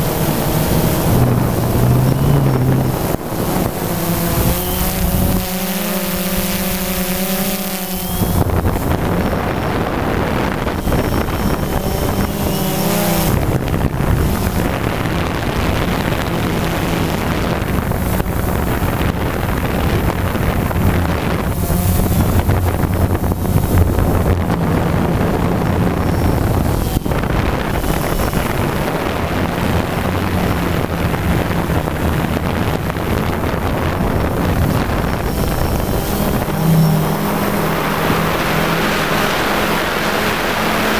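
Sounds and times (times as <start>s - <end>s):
drone propellers buzzing: 0.0s - 40.9s
wind rushing over microphone: 0.0s - 40.9s.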